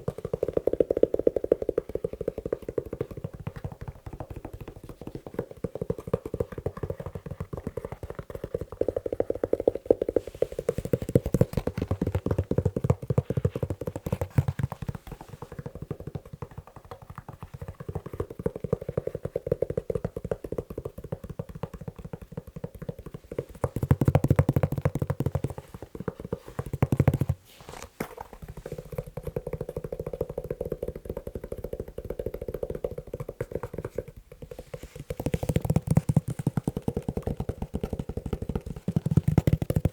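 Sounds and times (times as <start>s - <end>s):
fast tapping on leather shoe: 0.0s - 39.9s.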